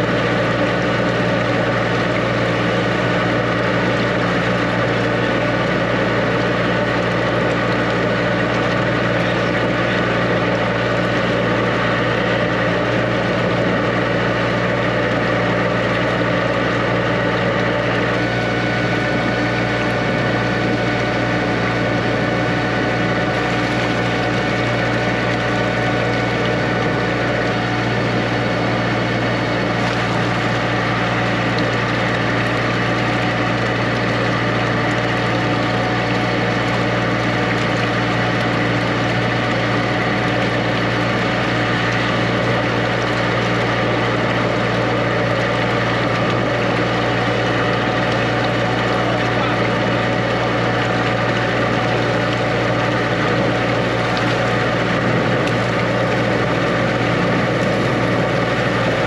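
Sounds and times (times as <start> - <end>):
engine and pump humming: 0.0 - 59.0.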